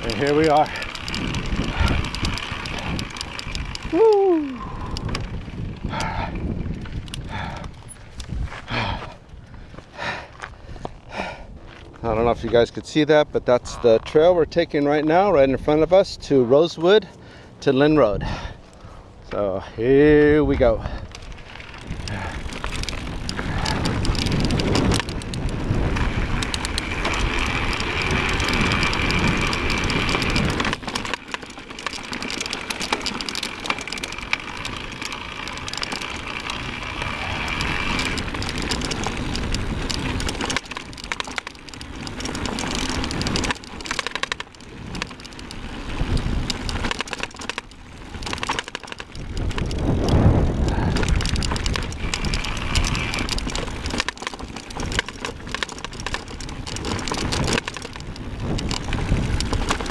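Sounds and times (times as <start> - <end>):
tyres crunching over gravel: 0.0 - 6.0, 6.6 - 15.2, 19.3 - 59.9
wind buffeting microphone: 0.0 - 16.4, 18.0 - 59.9.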